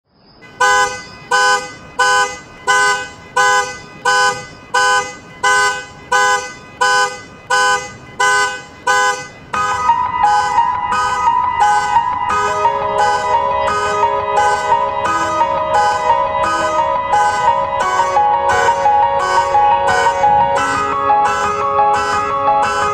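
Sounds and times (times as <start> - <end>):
car alarm horn blasts: 0.4 - 22.9
steady higher tone: 0.4 - 22.9.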